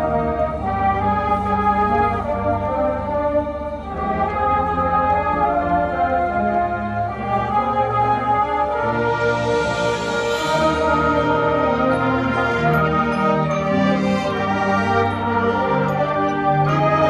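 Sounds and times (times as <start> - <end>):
marching band sustained chords: 0.0 - 17.0.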